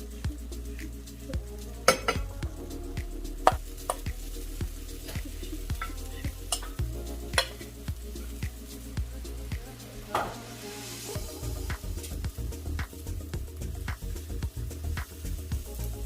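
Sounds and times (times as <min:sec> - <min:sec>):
background music with steady beat: 0:00.0 - 0:16.0
batter sizzling in a pan: 0:00.0 - 0:16.0.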